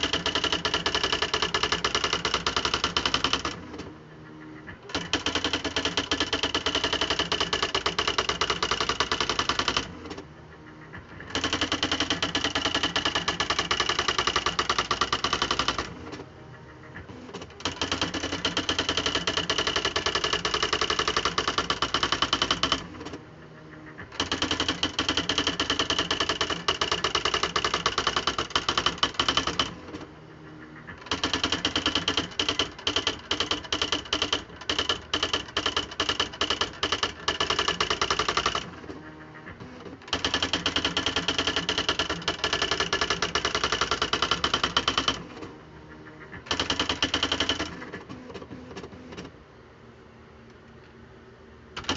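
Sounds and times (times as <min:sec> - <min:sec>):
electric typewriter printing: 0:00.0 - 0:49.4.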